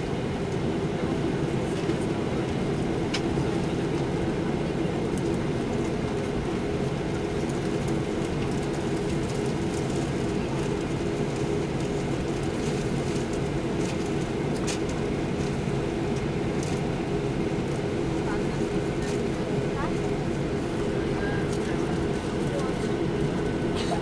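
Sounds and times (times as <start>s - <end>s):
airplane engines droning: 0.0s - 24.0s.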